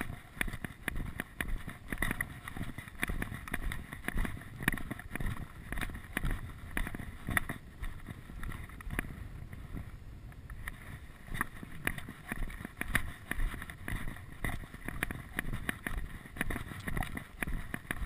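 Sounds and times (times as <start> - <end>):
walking footsteps: 0.0 - 18.0
wind buffeting microphone: 0.0 - 18.0.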